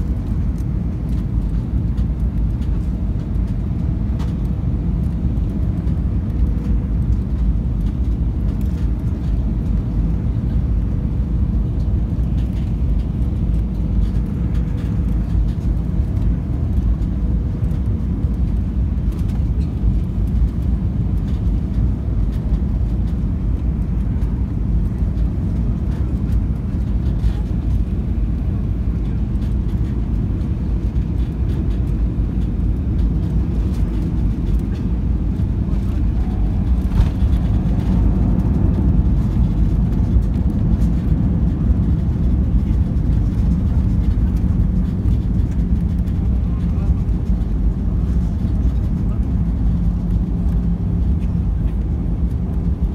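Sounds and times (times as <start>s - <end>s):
airliner rumble: 0.0s - 52.9s.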